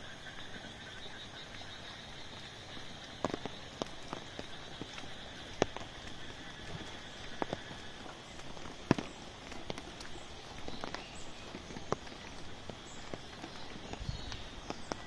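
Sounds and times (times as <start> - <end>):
steady hiss of rain: 0.0 - 15.0
raindrops tapping on umbrella: 1.4 - 15.0.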